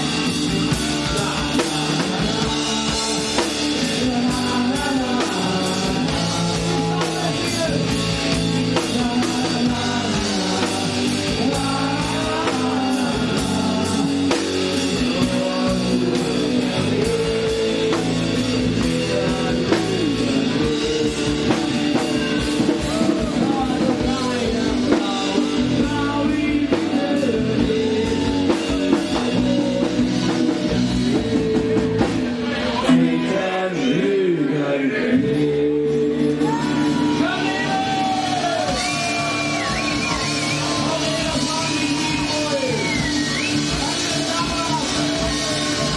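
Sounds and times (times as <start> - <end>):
drum kit: 0.0 - 33.3, 35.2 - 45.9
guitar: 0.0 - 45.9.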